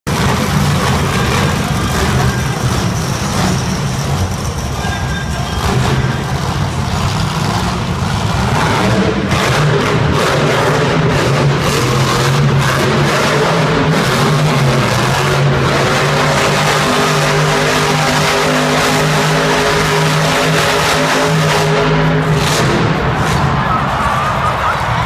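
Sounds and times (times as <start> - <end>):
truck engine running loud: 0.0 - 25.0.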